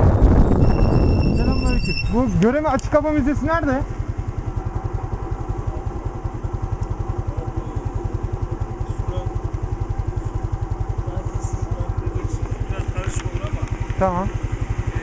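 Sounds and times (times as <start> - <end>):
scooter engine idling: 2.1 - 15.0.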